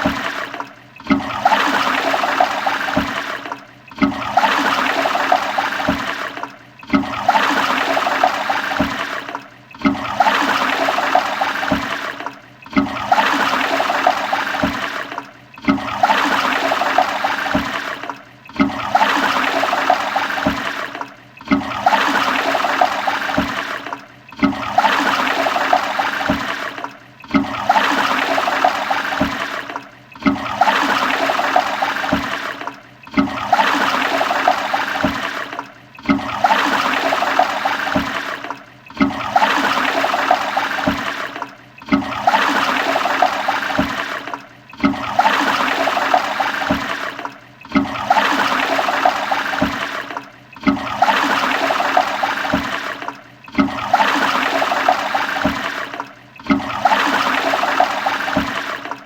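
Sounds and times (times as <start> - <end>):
toilet flushing: 0.0 - 59.0.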